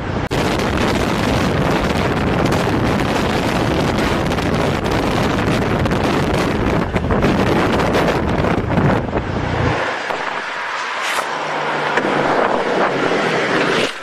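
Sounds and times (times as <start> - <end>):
wind buffeting microphone: 0.0 - 10.8, 11.5 - 14.0
road traffic noise: 0.0 - 14.0.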